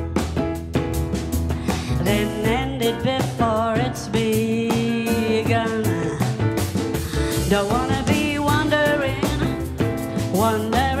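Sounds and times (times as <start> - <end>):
small group jazz playing: 0.0 - 11.0.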